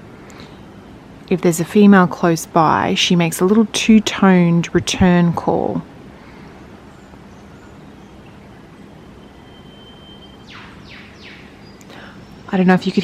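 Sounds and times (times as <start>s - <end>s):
faint rainforest background: 0.0s - 13.0s.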